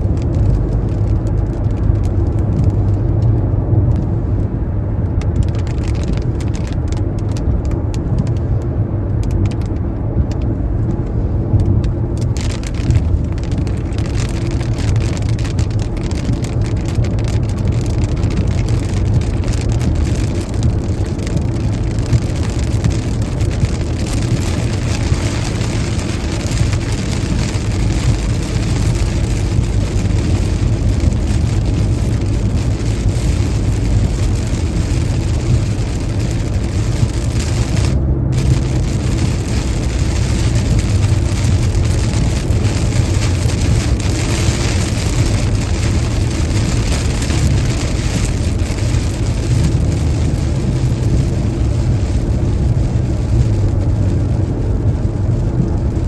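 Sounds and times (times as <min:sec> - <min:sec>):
rain and road spray hiss: 0:00.0 - 0:56.0
tyres and engine rumble: 0:00.0 - 0:56.0.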